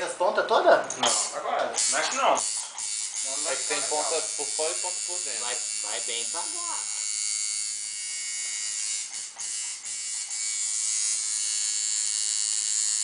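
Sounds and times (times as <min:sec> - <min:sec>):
tattoo machine buzzing: 0:01.0 - 0:13.0.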